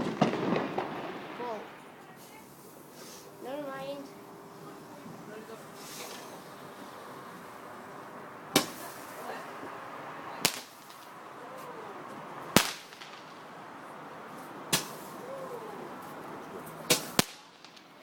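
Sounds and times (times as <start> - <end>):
fireworks bangs: 0.0 - 16.0, 16.8 - 18.0.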